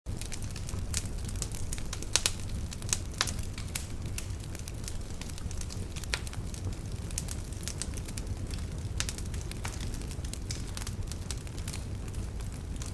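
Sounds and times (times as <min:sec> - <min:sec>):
logs crackling and popping: 0:00.1 - 0:12.9
low rumble of flame: 0:00.1 - 0:12.9.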